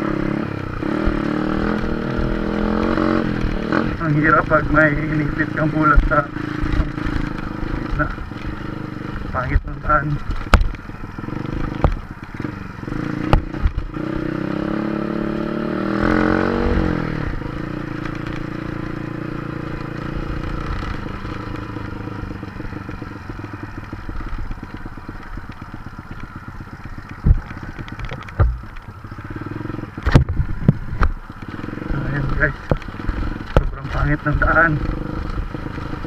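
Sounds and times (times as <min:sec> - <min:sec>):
motorcycle engine revving: 0:00.0 - 0:36.0
motorcycle jolting over bumps: 0:00.0 - 0:36.0.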